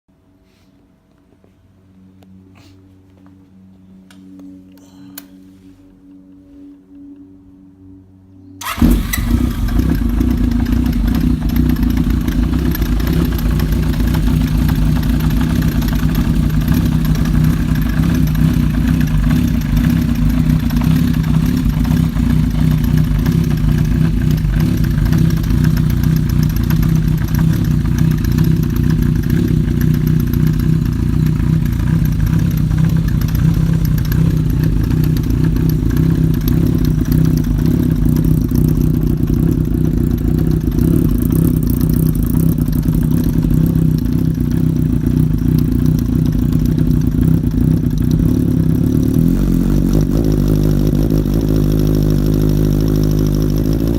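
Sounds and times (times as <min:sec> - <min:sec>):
motorcycle engine idling: 0:08.6 - 0:53.9.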